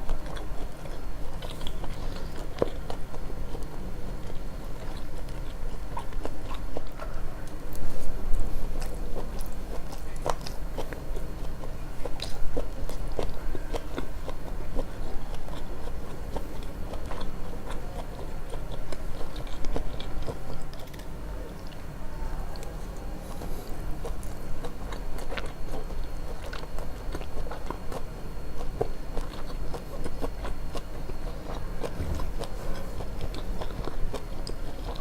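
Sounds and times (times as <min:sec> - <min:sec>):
wet chewing mouth clicks: 0:00.0 - 0:21.9, 0:22.6 - 0:35.0.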